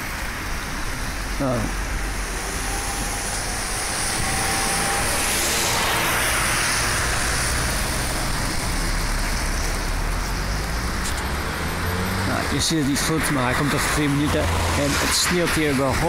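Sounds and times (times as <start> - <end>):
road traffic rumble: 0.0 - 16.0
vehicle passing: 1.2 - 16.0.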